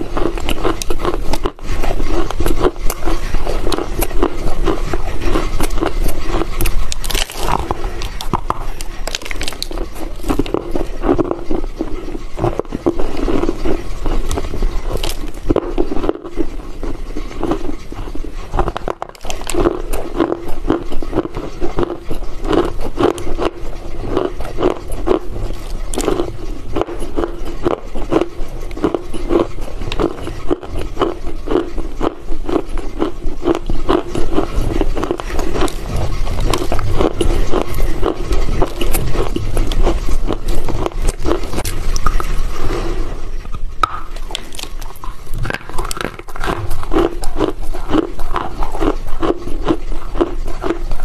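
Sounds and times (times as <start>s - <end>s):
crunchy chewing: 0.0s - 51.0s.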